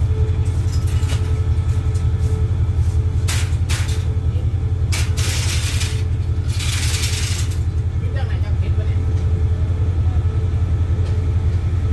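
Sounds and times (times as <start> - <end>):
diesel train engine idling: 0.0 - 11.9.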